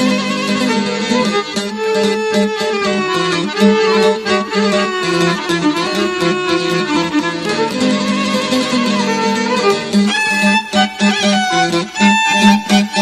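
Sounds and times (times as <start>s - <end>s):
rhythmic accompaniment: 0.0s - 13.0s
violin playing folk melody: 0.0s - 13.0s.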